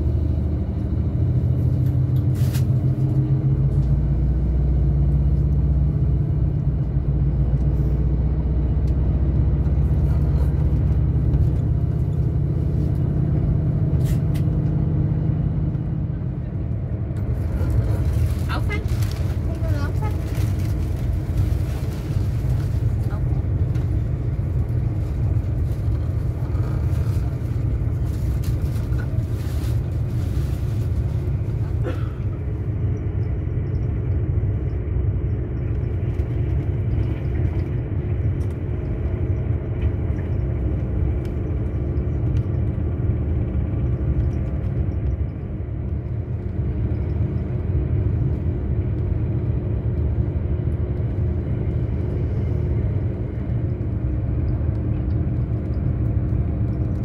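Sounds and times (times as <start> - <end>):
train rumbling from inside carriage: 0.0 - 57.0.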